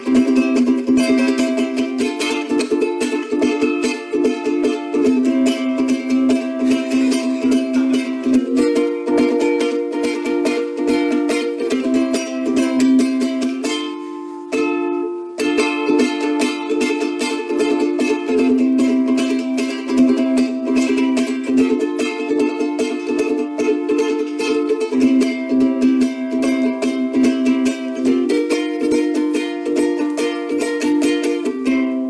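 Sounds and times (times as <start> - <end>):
ukulele strumming: 0.0 - 32.0.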